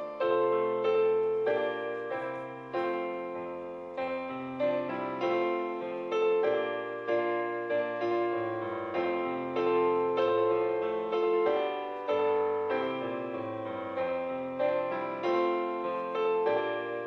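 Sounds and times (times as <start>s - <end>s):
slow hymn on piano: 0.0s - 17.0s.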